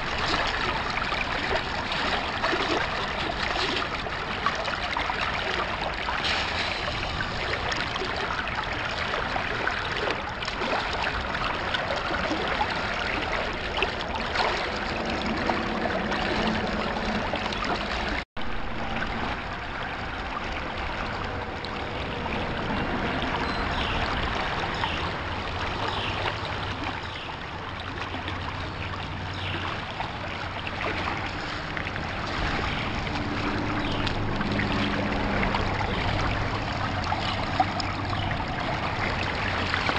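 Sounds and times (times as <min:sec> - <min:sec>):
stream water running and splashing: 0:00.0 - 0:39.9.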